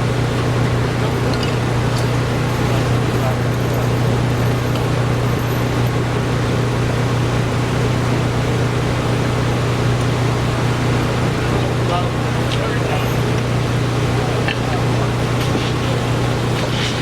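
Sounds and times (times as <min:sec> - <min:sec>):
constant noise: 0:00.0 - 0:17.0
low machine hum: 0:00.0 - 0:17.0.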